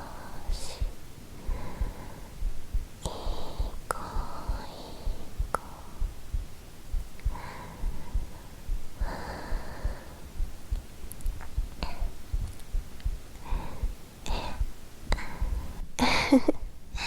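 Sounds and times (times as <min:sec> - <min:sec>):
heartbeat thumps: 0:00.0 - 0:17.0
woman breathing: 0:00.0 - 0:17.0.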